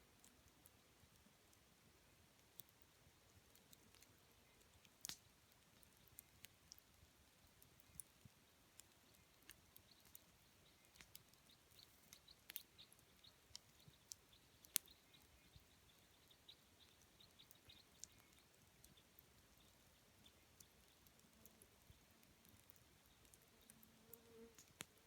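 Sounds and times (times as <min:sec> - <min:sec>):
campfire crackling and popping: 0:00.0 - 0:23.9, 0:24.5 - 0:25.0.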